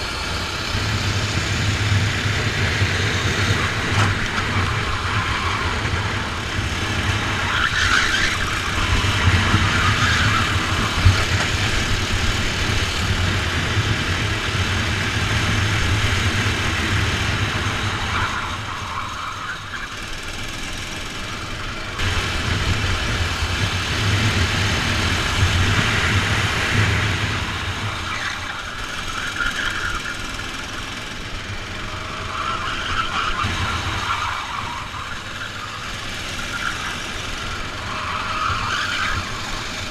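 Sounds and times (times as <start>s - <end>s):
drone of other karts: 0.0s - 39.9s
kart engine revving: 0.0s - 39.9s.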